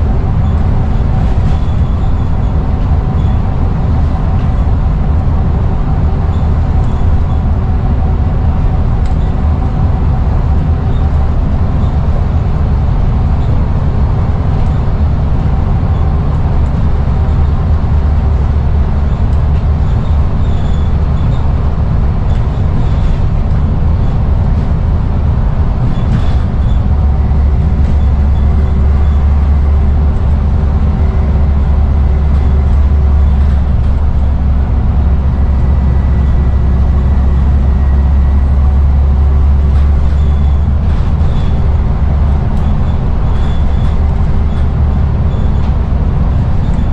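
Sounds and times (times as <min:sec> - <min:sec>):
bus diesel engine drone: 0:00.0 - 0:46.9.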